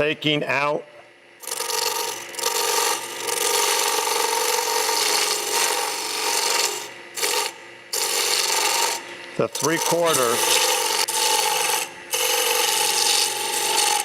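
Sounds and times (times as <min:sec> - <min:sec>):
chisel rasping on spinning wood: 0:01.4 - 0:14.0
lathe humming: 0:01.4 - 0:14.0.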